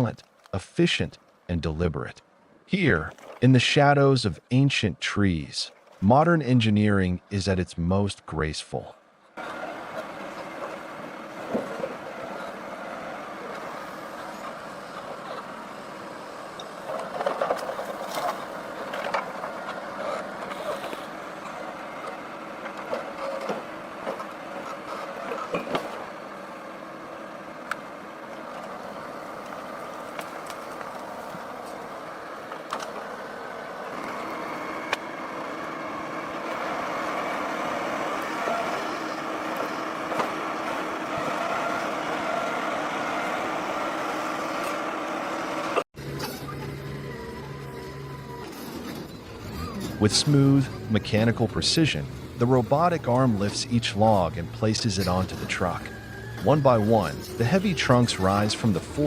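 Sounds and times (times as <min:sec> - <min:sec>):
machine engine running: 0:09.4 - 0:59.0.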